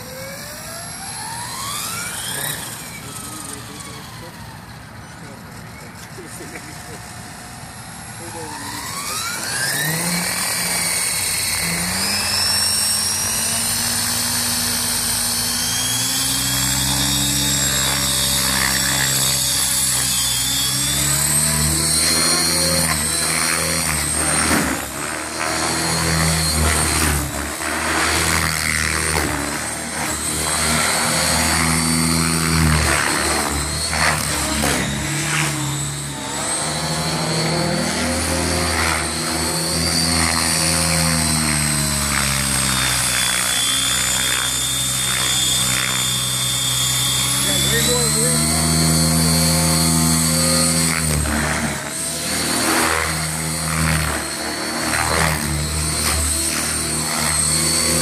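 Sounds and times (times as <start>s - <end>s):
model helicopter rotor whining: 0.0s - 58.0s.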